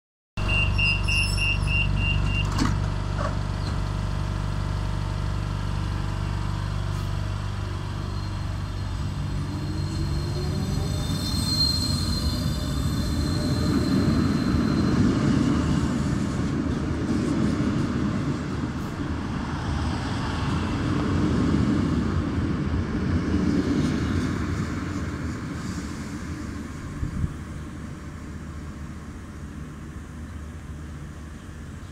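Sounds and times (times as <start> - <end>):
train wheels rumbling on track: 0.4 - 31.9.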